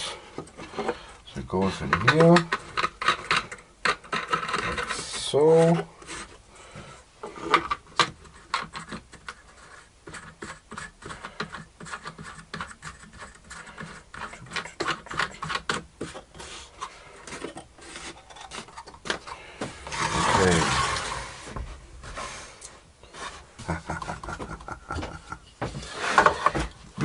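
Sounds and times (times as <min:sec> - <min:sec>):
wooden knobs scraping and clicking: 0:00.0 - 0:27.0
wood-on-wood scrape: 0:00.4 - 0:26.9.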